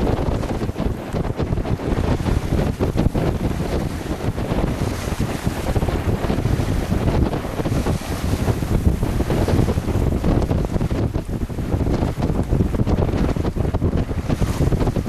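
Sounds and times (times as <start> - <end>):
water slapping along hull: 0.0 - 15.0
wind buffeting microphone: 0.0 - 15.0.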